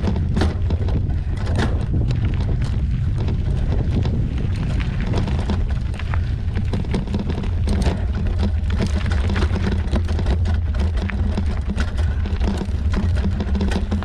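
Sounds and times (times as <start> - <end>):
bike rattling over rocks: 0.0 - 14.0
wind buffeting microphone: 0.0 - 14.0.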